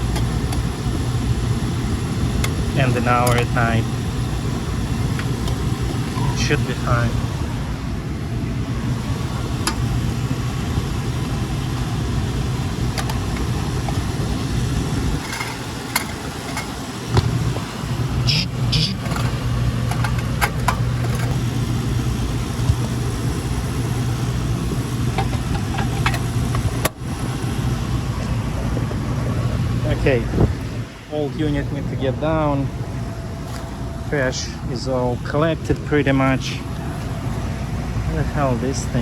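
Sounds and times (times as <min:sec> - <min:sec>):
condensing unit humming: 0:00.0 - 0:39.0.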